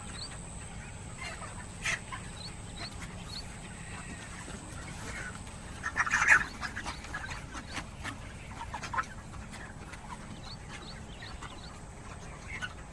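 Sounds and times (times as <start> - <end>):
chicks peeping: 0.0 - 12.9.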